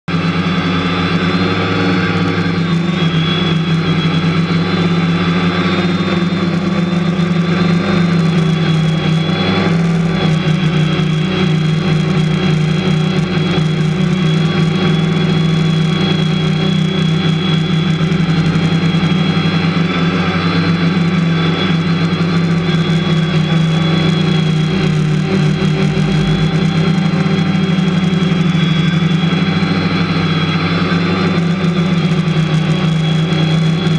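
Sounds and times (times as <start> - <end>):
drone motors buzzing: 0.1 - 33.9
high whine: 0.1 - 33.9.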